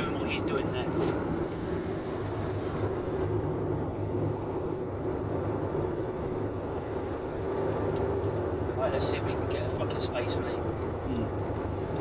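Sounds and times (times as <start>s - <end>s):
car interior engine hum: 0.0s - 12.0s.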